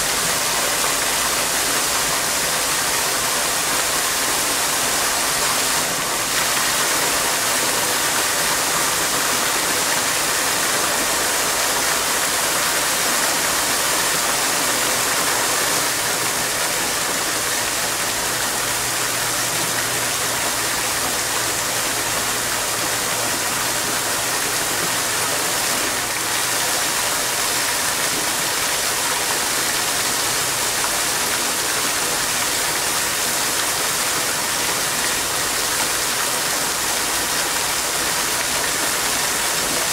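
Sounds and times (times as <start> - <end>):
fountain water splashing into basin: 0.0 - 39.9.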